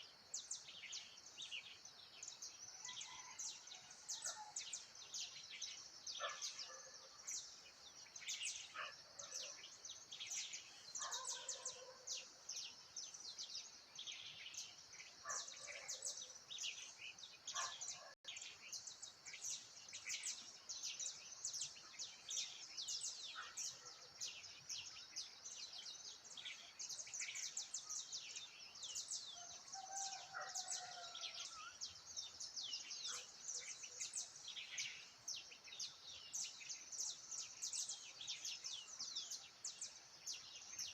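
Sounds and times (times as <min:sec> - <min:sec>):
birds chirping: 0:04.1 - 0:40.9.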